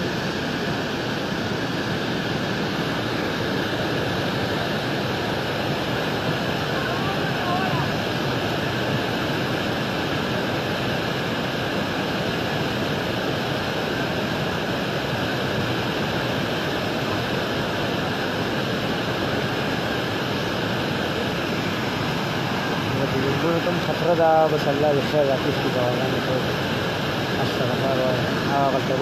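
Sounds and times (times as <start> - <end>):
flooded river rushing: 0.0 - 29.0.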